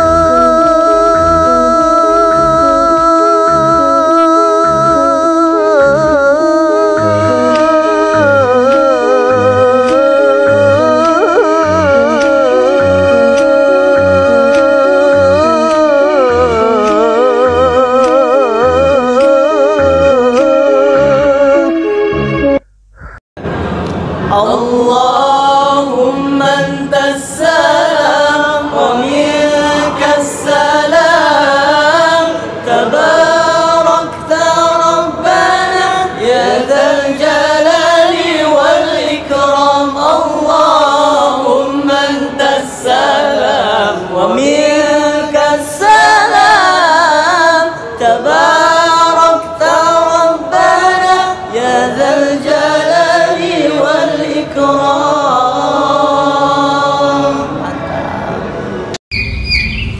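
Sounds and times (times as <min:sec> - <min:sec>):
men singing unaccompanied: 0:00.0 - 0:21.9, 0:24.3 - 0:57.7.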